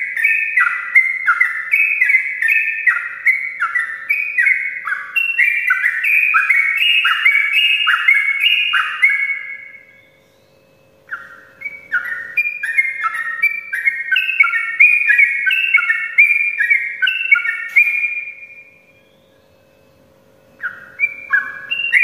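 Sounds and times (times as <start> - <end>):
bird singing whistled notes: 0.0 - 22.0.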